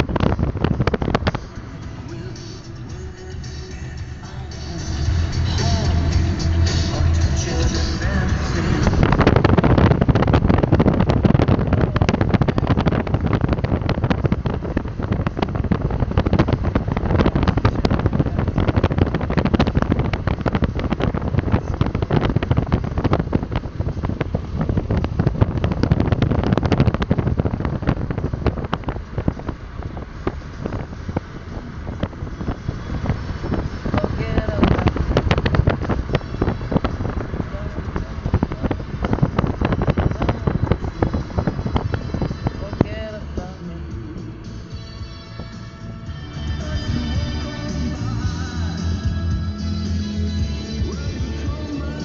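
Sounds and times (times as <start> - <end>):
road and engine noise: 0.0 - 52.0
wind buffeting microphone: 0.0 - 52.0.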